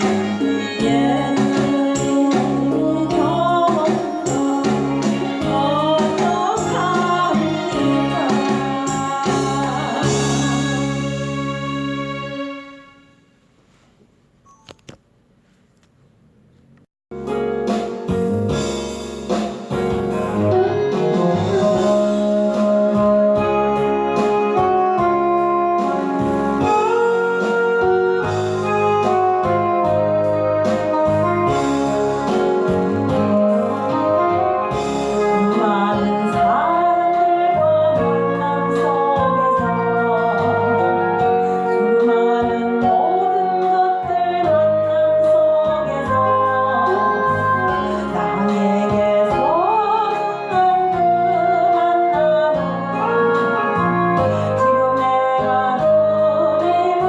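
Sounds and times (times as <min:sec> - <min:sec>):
praise song music: 0:00.0 - 0:13.3, 0:17.1 - 0:57.0.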